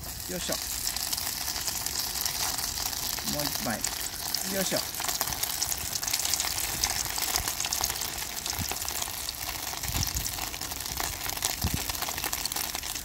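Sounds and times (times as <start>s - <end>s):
oil sizzling and crackling: 0.0s - 13.0s.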